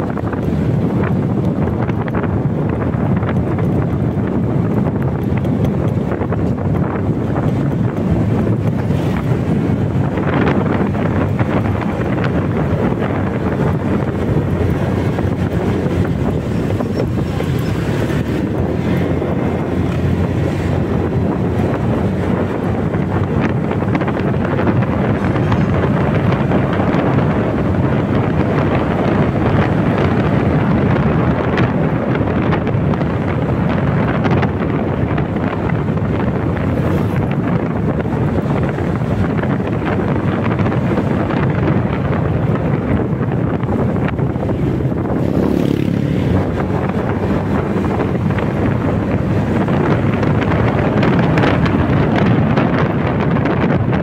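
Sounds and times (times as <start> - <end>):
scooter engine and tyre noise: 0.0 - 54.0
wind rushing on microphone: 0.0 - 54.0.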